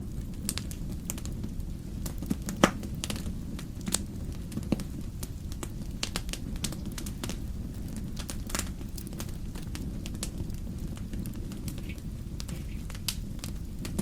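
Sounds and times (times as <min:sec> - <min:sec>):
fire crackles and pops: 0:00.0 - 0:14.0
flames rumbling: 0:00.0 - 0:14.0.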